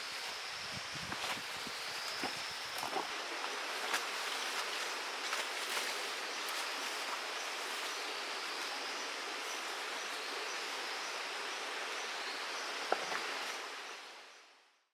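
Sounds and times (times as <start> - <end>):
flowing stream water: 0.0 - 14.3.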